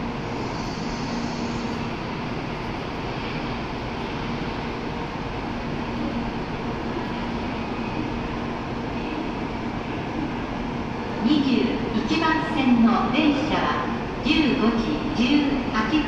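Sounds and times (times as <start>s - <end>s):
standing train humming: 0.0s - 16.0s
station noise: 0.0s - 16.0s.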